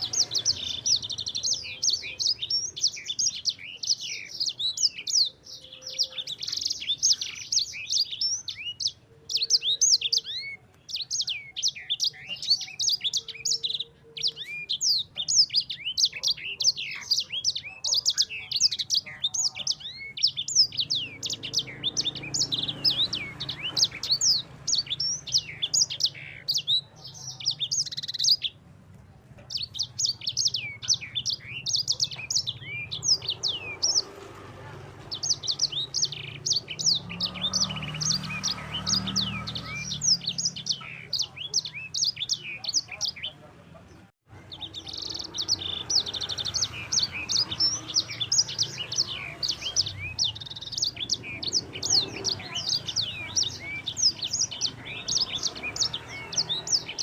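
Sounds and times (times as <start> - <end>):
songbird chirps and trills: 0.0 - 57.0.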